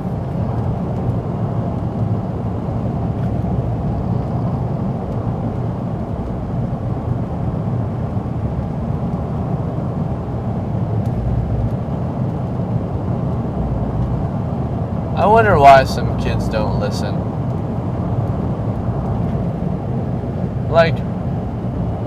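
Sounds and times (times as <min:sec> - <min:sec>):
car interior road and engine noise: 0:00.0 - 0:22.0.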